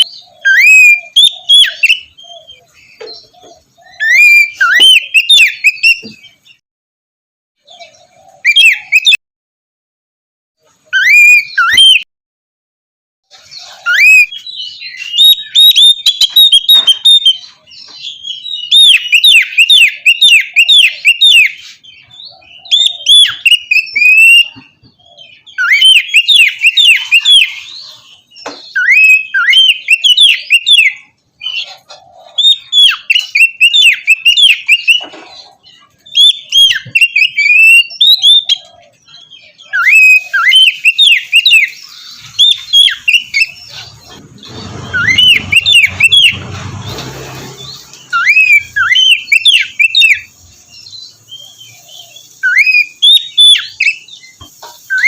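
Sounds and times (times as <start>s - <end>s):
bird singing whistled notes: 0.0s - 6.5s, 7.8s - 9.2s, 10.9s - 12.1s, 13.6s - 31.6s, 32.4s - 35.0s, 36.0s - 46.5s, 47.6s - 55.0s.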